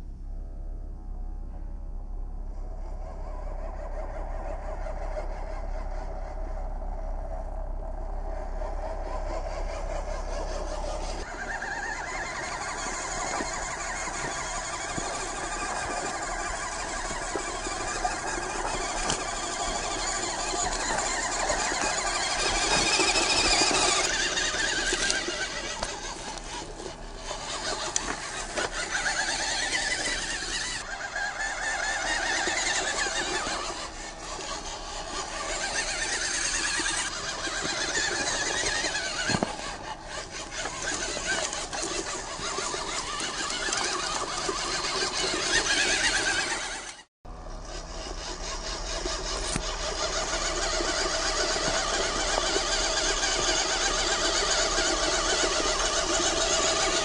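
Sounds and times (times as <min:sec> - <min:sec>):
small electric motor whining: 0:02.4 - 0:57.0.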